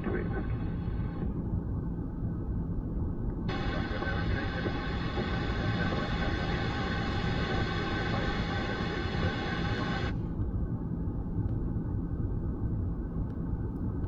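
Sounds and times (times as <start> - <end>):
hum of steady tones: 0.0 - 14.0
jet cockpit engine drone: 0.0 - 14.0.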